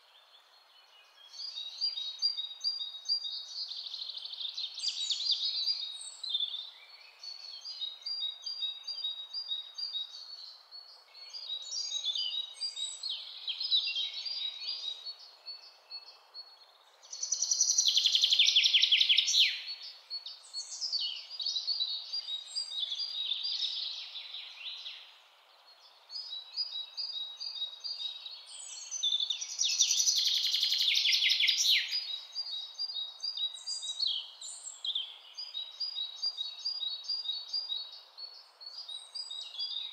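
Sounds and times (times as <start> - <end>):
faint hiss: 0.0 - 39.9
birds chirping and trilling: 0.3 - 39.9.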